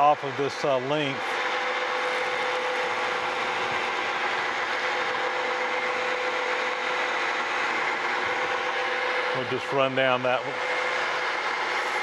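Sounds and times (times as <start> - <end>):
milling machine cutting metal: 0.0 - 12.0.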